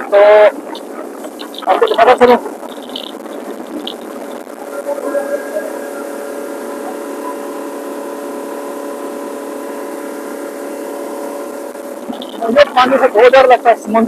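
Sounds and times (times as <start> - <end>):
outboard engine droning: 0.0 - 14.0.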